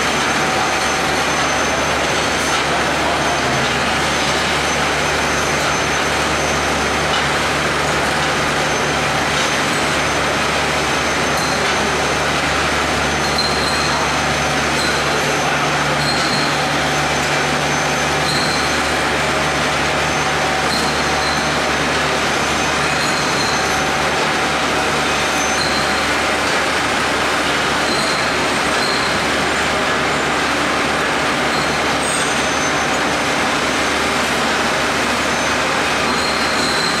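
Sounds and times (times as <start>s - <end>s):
washing machine mechanical din: 0.0s - 37.0s.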